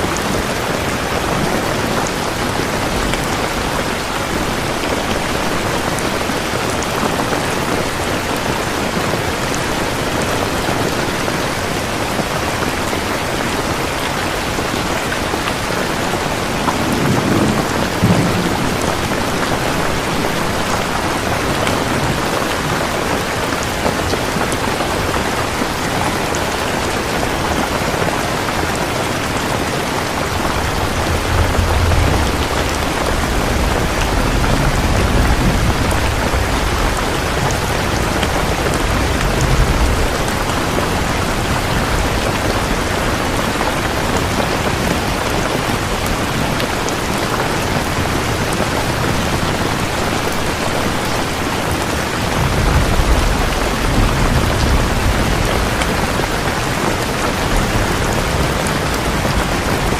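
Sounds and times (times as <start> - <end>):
heavy rain falling: 0.0 - 59.9
thunder rumbling: 0.0 - 59.9.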